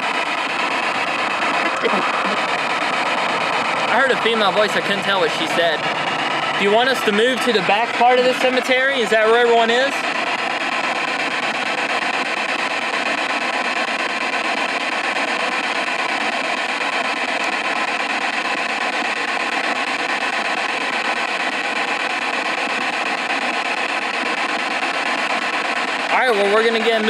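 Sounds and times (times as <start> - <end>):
radio static through speaker: 0.0 - 27.0.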